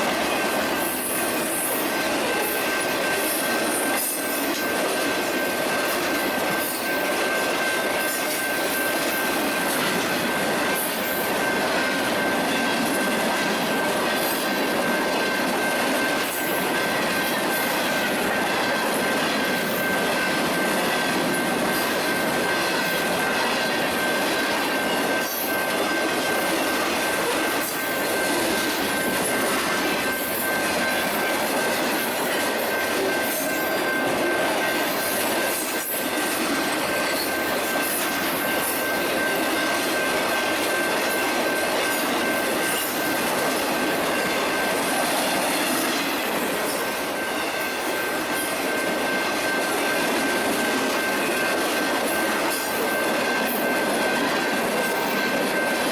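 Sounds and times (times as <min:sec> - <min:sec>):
freight train wheels on rail: 0:00.0 - 0:55.9.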